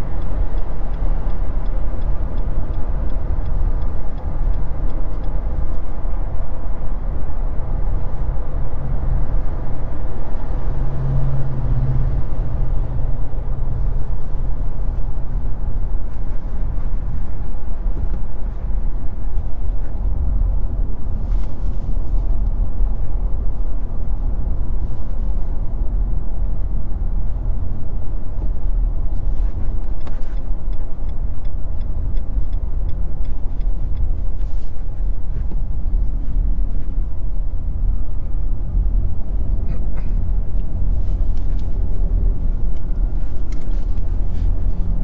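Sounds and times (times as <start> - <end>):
road and engine rumble: 0.0 - 45.0.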